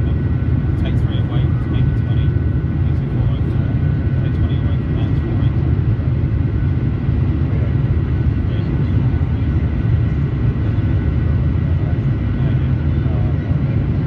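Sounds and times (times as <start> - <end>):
faint steady whine: 0.0 - 14.0
jet engine cabin rumble: 0.0 - 14.0.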